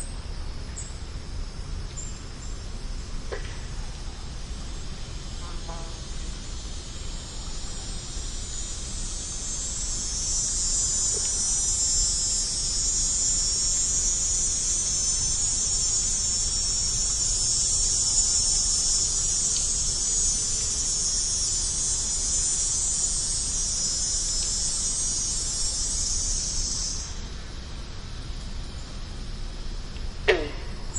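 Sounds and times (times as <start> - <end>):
insects chorus: 0.0 - 30.9.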